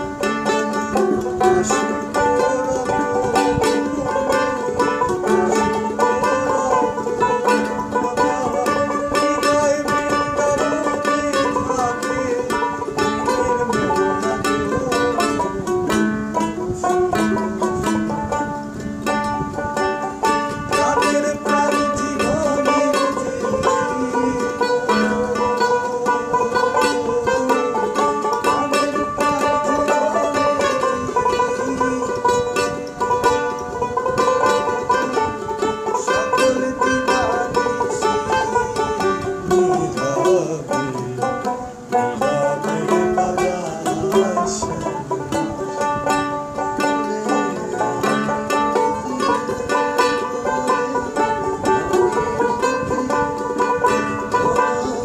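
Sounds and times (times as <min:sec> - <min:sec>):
plucked lute melody with slides: 0:00.0 - 0:55.0.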